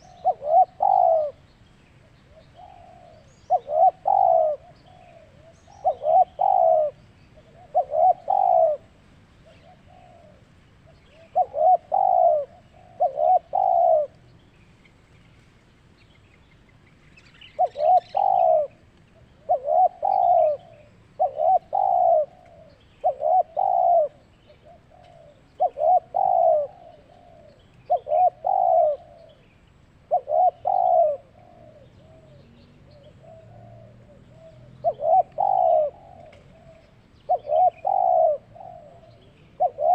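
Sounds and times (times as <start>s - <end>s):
dove cooing: 0.0s - 14.2s, 17.4s - 39.9s.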